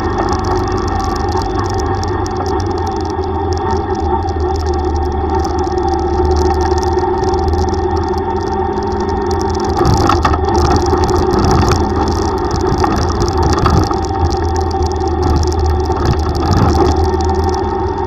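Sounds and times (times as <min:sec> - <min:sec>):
road and wind noise: 0:00.0 - 0:18.0
tricycle engine running: 0:00.0 - 0:18.0.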